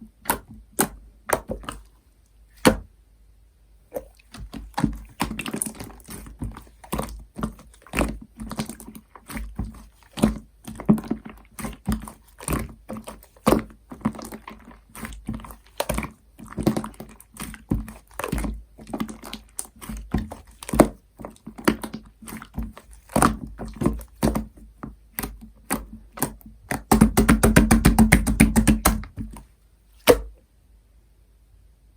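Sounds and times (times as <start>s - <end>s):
slime squishing with wet clicks: 0.1s - 2.9s, 3.9s - 30.3s.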